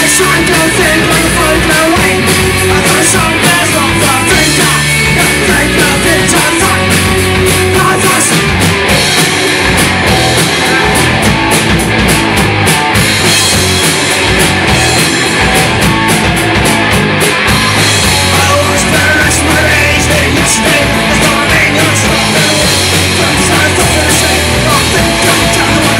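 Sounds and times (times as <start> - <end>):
punk rock band playing live: 0.0 - 25.9.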